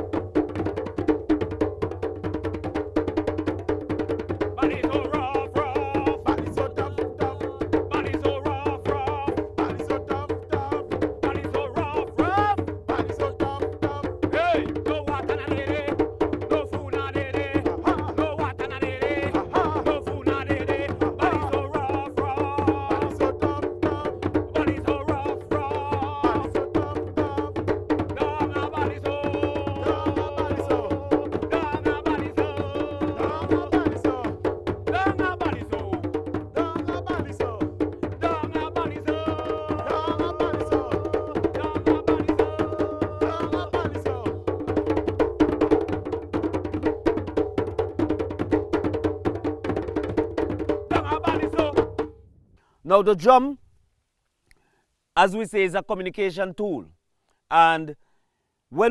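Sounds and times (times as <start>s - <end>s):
hand drums playing fast rhythm: 0.0s - 52.2s.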